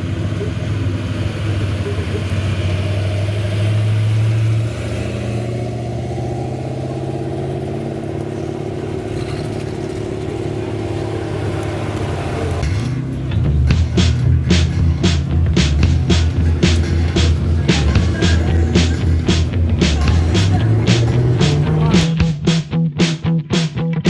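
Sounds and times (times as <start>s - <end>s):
car engine rumbling at low revs: 0.0s - 22.4s.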